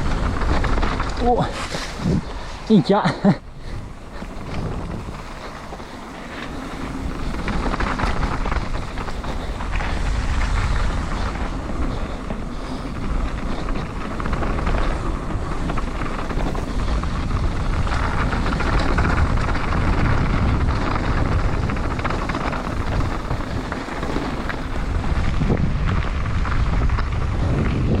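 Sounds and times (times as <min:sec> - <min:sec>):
bike rattling over bumps: 0:00.0 - 0:28.0
bike tyre noise: 0:00.0 - 0:28.0
wind buffeting microphone: 0:00.0 - 0:28.0.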